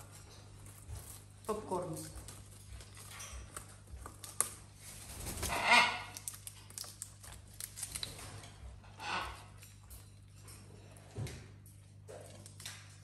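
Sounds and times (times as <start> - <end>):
parrot tearing leaves: 0.0 - 10.9.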